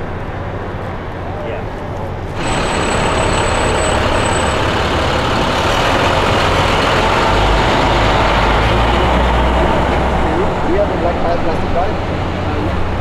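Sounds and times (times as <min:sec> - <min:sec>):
truck driving past: 0:02.2 - 0:13.0.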